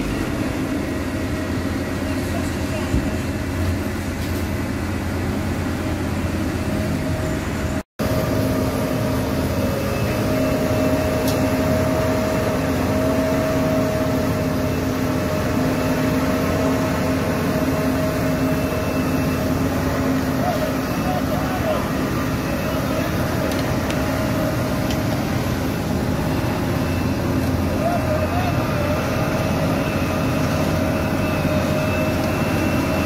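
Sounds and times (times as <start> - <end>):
heavy diesel engines running: 0.0 - 33.0.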